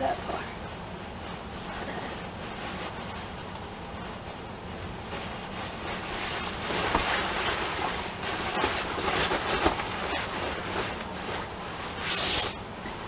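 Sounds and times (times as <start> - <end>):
underskirt fabric rustling: 0.0 - 13.0.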